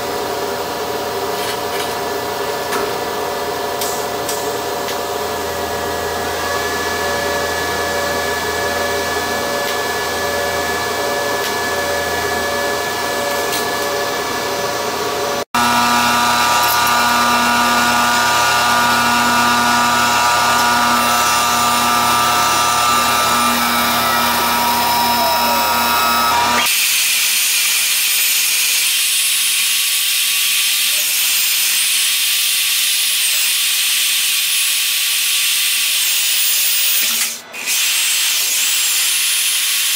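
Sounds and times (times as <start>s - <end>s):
welding arc hum with pulsing tone: 0.0s - 39.9s
band saw cutting metal tubing: 1.2s - 39.9s.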